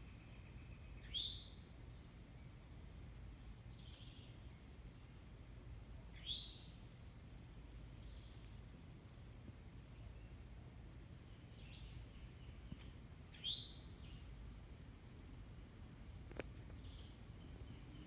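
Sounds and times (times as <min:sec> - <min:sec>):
faint low rumble: 0:00.0 - 0:18.0.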